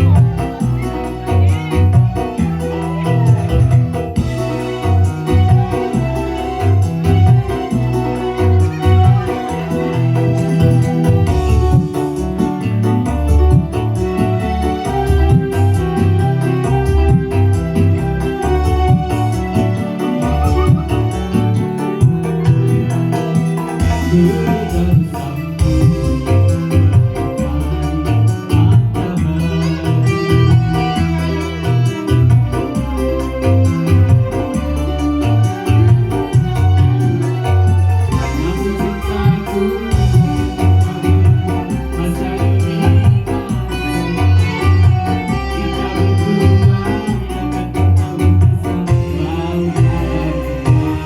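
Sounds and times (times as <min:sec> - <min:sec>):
electronic keyboard organ sound: 0:00.0 - 0:51.0
repeating bass line: 0:00.0 - 0:51.0.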